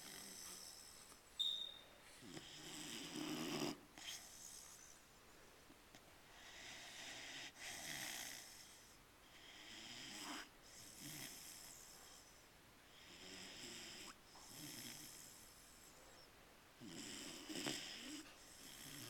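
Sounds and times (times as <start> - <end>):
puppy snoring: 0.0 - 1.2, 2.2 - 5.0, 6.3 - 19.0.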